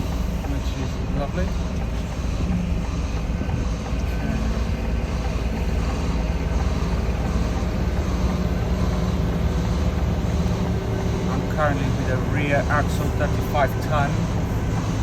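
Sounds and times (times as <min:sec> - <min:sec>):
lorry diesel engine running: 0:00.0 - 0:15.0.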